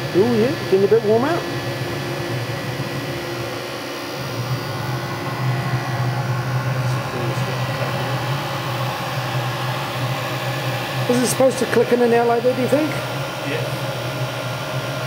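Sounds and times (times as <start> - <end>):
heater blower and burner hum: 0.0 - 15.0.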